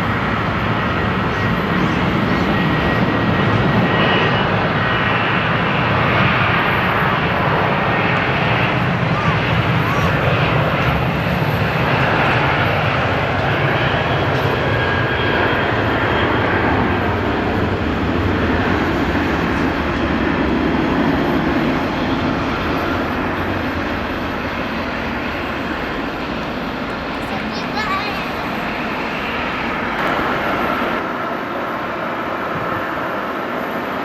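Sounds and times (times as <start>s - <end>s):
airliner engines running: 0.0s - 34.0s.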